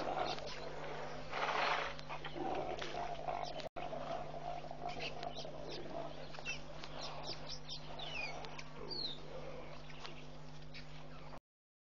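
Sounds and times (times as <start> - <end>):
birds chirping: 0.0 - 11.4
steady low hum: 0.0 - 11.4.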